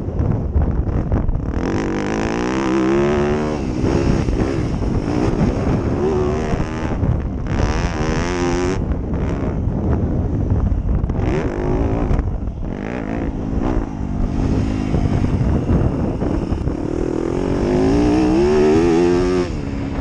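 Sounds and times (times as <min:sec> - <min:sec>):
wind on microphone: 0:00.0 - 0:20.0
motocross bike engine revving: 0:00.9 - 0:10.3, 0:11.0 - 0:20.0.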